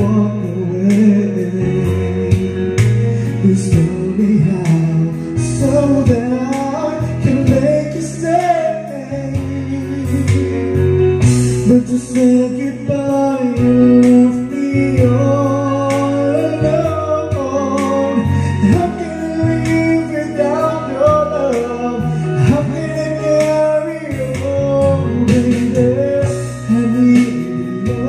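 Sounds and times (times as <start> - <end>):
guitar-backed ballad: 0.0 - 28.0
person singing: 0.0 - 28.0.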